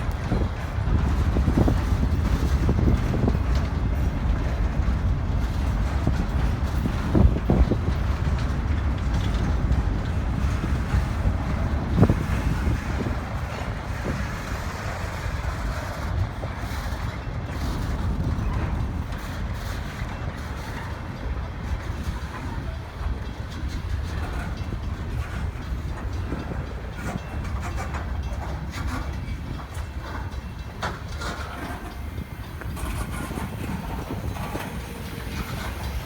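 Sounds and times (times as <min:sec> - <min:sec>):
train cars rumbling on rails: 0:00.0 - 0:36.0.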